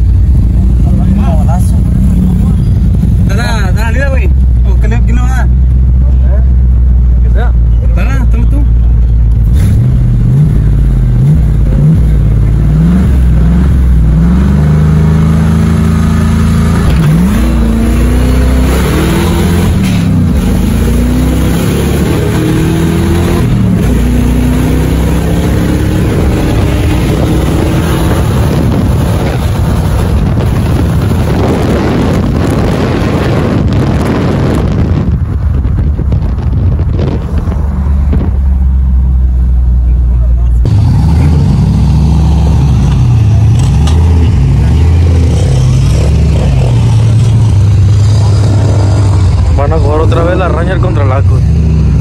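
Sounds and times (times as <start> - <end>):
engine accelerating with gear changes: 0.0 - 52.0
wind and road noise: 0.0 - 52.0.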